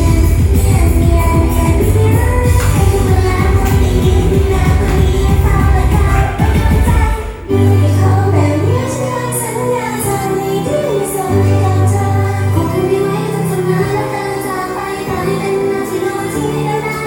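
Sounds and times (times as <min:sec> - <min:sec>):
pop song with female singing: 0:00.0 - 0:17.0.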